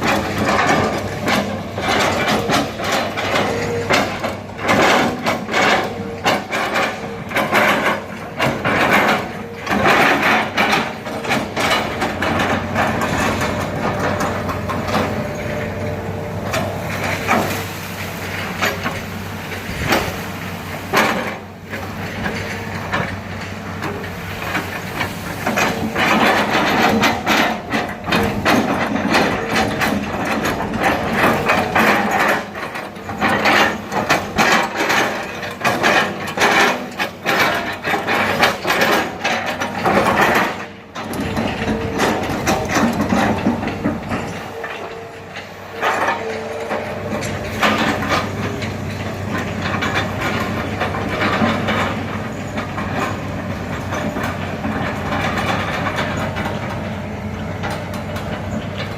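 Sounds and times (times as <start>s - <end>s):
diesel engine humming: 0.0s - 58.9s
knocks and cracks of tracks and wood: 0.0s - 58.9s.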